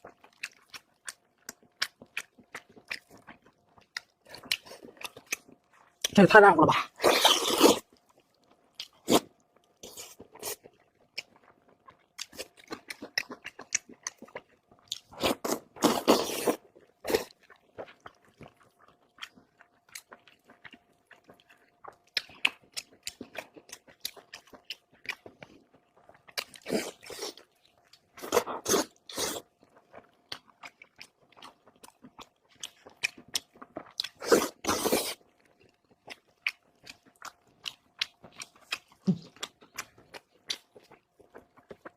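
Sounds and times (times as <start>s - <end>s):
chewing with wet mouth clicks: 0.0s - 6.2s, 7.8s - 41.9s.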